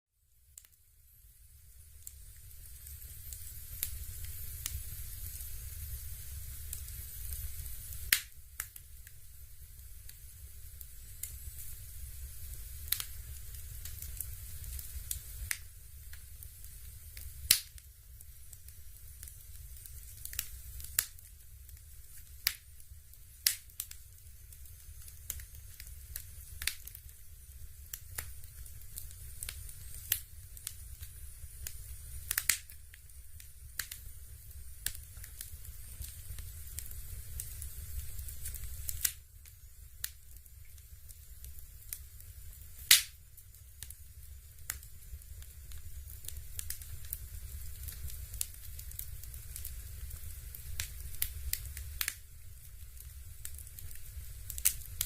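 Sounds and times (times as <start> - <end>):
simulated fire crackle pops: 0.2 - 55.0
steady low hum: 0.2 - 55.0.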